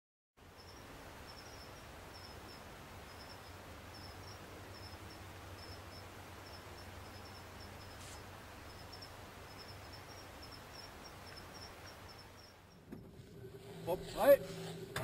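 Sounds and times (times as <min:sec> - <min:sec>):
insect chirping: 0:00.4 - 0:15.0
low hum and hiss: 0:00.4 - 0:15.0.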